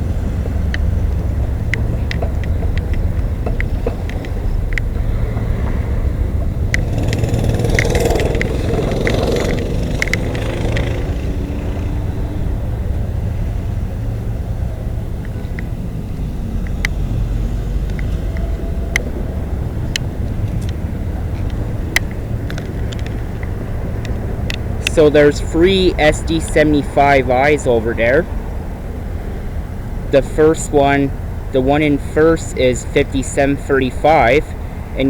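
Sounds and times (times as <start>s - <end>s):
diesel locomotives idling: 0.0s - 35.0s
rush of noise: 0.0s - 35.0s.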